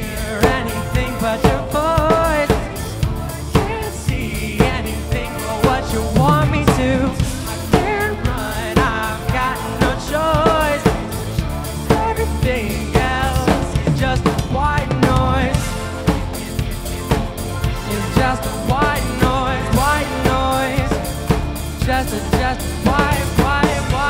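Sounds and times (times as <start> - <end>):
drum kit beat: 0.0 - 24.0
man singing: 0.0 - 24.0
pop-rock band playing: 0.0 - 24.0.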